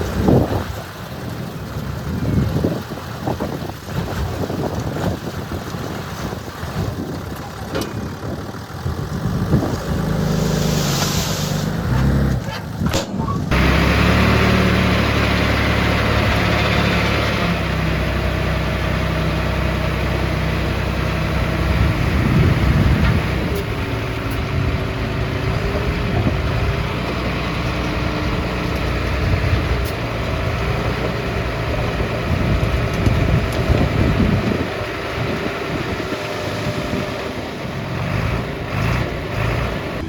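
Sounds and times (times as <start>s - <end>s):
diesel machinery engine rumble: 0.0s - 40.0s.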